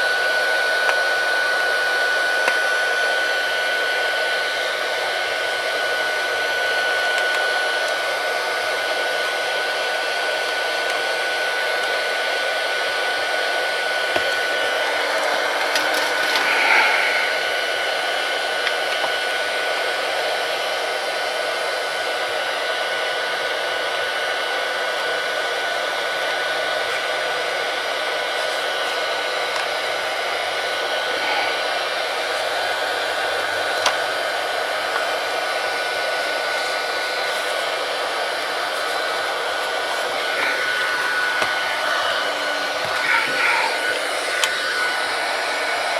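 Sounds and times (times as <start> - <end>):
hot-air blower whining: 0.0 - 45.9.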